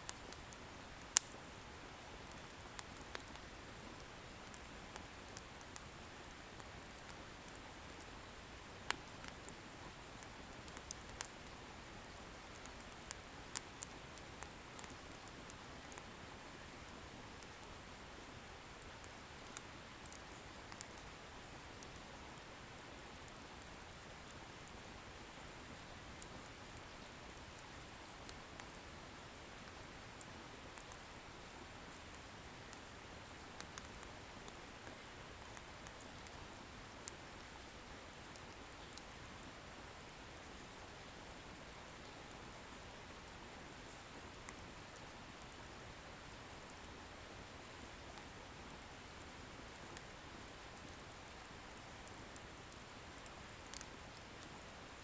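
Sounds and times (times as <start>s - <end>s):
fire crackles and pops: 0.0s - 39.2s, 39.8s - 55.0s
wood bonfire burning: 0.1s - 40.5s, 43.0s - 55.0s.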